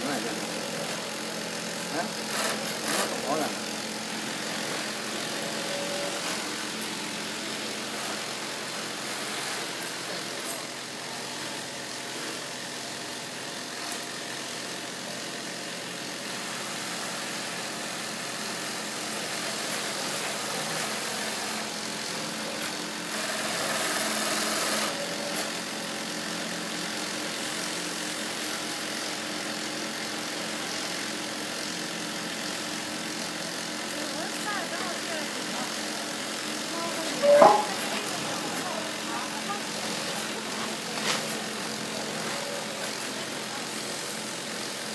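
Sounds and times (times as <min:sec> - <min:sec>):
industrial sewing machine running: 0:00.0 - 0:44.9.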